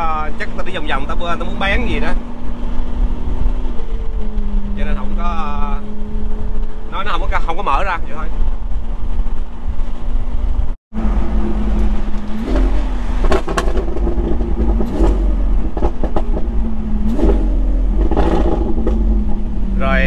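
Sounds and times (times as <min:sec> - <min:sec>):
road noise: 0:00.0 - 0:20.0
vehicle engine drone: 0:00.0 - 0:20.0.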